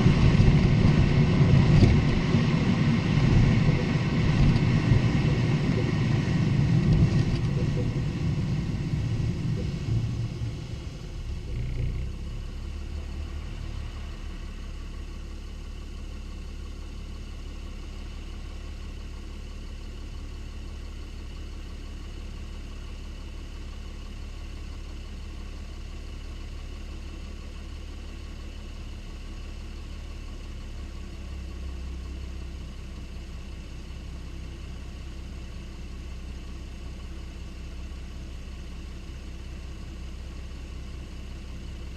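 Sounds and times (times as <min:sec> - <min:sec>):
car engine droning: 0:00.0 - 0:41.9.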